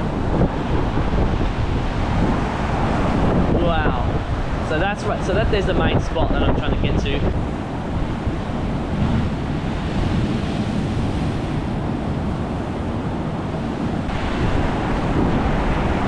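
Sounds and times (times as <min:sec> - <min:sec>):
surf washing over rocks: 0:00.0 - 0:16.0
wind buffeting microphone: 0:00.0 - 0:16.0.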